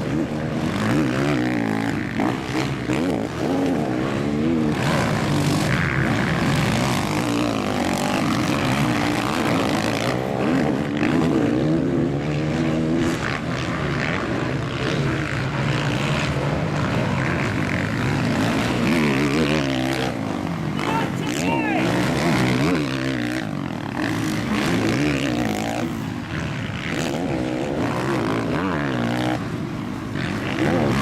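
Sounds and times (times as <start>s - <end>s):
motocross bike engines revving: 0.0s - 31.0s.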